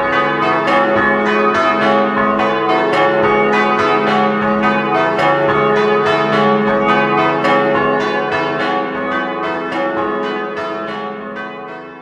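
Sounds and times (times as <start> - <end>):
church bells pealing: 0.0 - 12.0.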